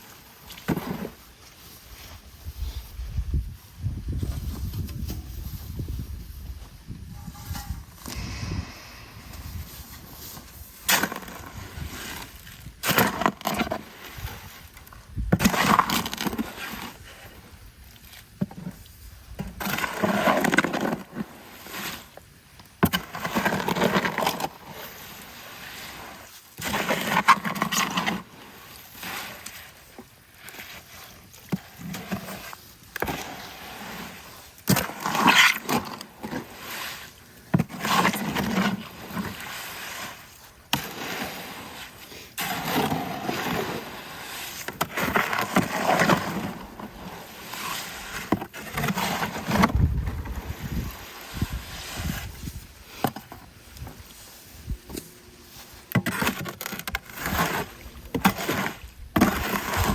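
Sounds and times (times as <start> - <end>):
tool scraping wet concrete: 0.0 - 3.0, 4.2 - 59.9.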